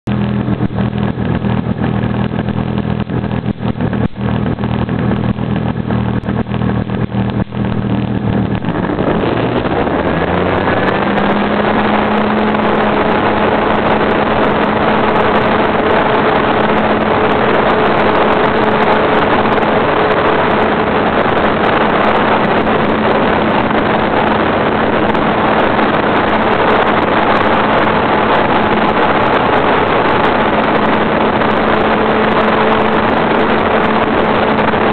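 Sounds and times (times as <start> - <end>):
model airplane engine and propeller: 0.0 - 34.9.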